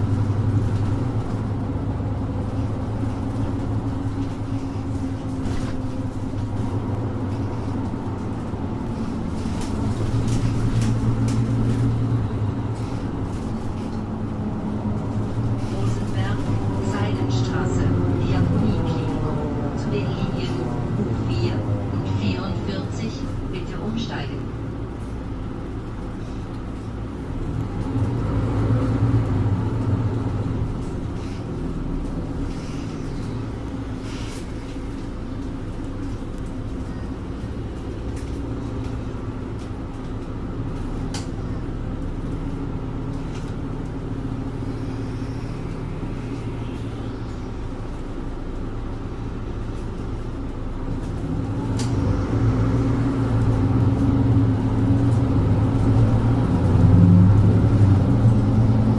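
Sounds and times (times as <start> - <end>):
bus diesel engine humming: 0.0 - 58.9.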